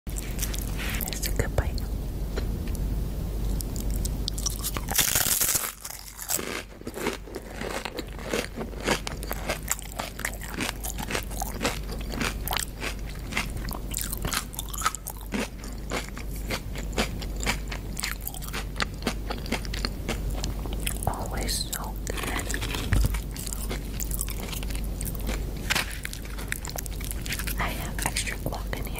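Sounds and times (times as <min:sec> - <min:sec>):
chips crunching while chewed: 0:03.6 - 0:28.6.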